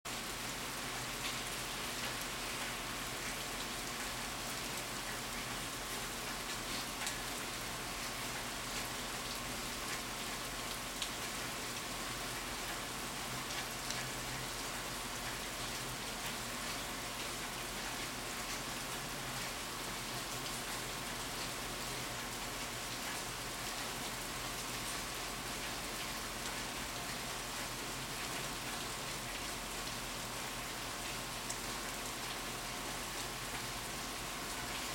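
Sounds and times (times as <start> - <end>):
raindrops ticking on surfaces: 0.1 - 34.9
steady rain hiss: 0.1 - 34.9.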